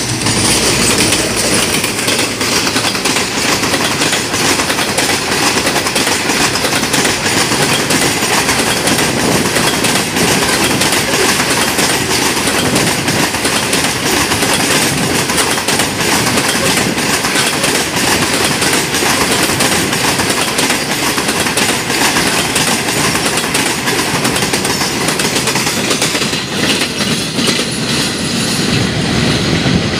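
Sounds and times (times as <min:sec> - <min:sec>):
wheels clicking on rails: 0:00.0 - 0:29.9.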